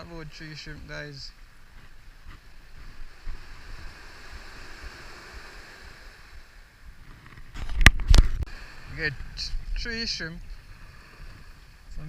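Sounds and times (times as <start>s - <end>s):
outdoor background hiss: 0.0s - 12.0s
wind rumbling on microphone: 0.0s - 12.0s.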